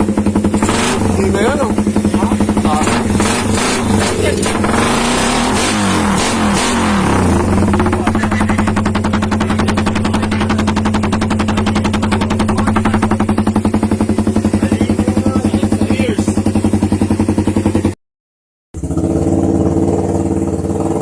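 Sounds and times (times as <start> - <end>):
motorcycle engine idling: 0.0 - 18.0, 18.8 - 21.0.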